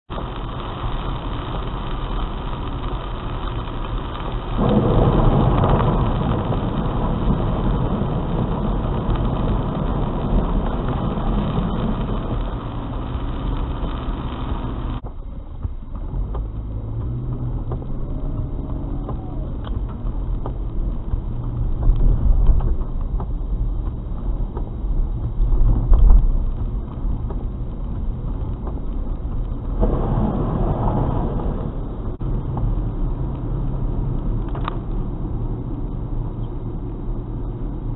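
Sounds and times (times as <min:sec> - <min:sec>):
car engine: 0:00.1 - 0:37.9
rain on car roof: 0:00.1 - 0:37.9
tyres hissing on wet road: 0:00.1 - 0:37.9.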